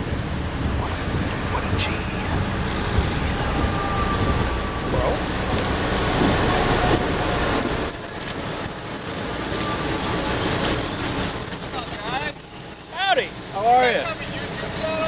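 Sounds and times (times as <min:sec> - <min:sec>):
train rolling rumble: 0:00.0 - 0:15.0
train wheels squealing on rails: 0:00.0 - 0:15.0.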